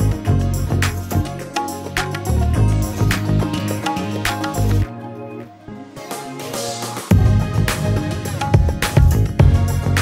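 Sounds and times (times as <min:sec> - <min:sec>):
music with heavy bass and drums: 0:00.0 - 0:04.9, 0:06.0 - 0:10.0.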